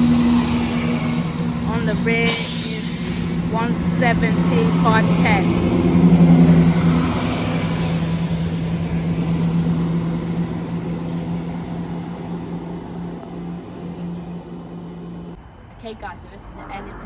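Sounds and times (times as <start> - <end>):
diesel train engines humming: 0.0 - 15.4.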